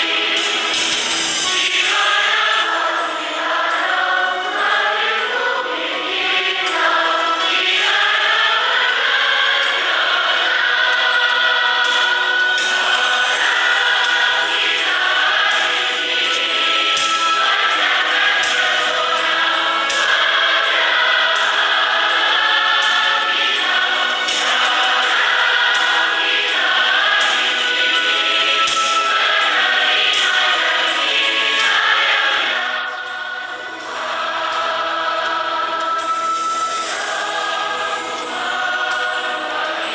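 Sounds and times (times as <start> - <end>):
congregation singing: 0.0 - 39.9.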